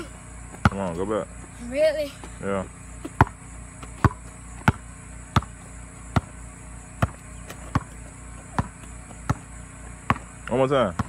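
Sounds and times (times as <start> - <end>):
basketball bouncing on gravel: 0.0 - 1.5, 2.2 - 11.0.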